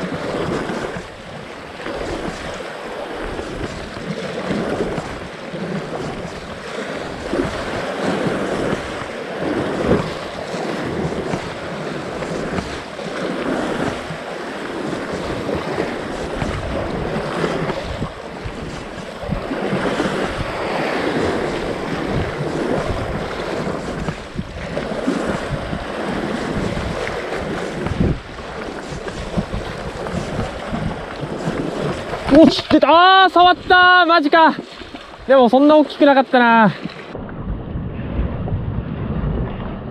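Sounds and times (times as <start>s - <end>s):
sea waves on rocky shore: 0.0s - 39.9s
wind buffeting the microphone: 0.0s - 39.9s.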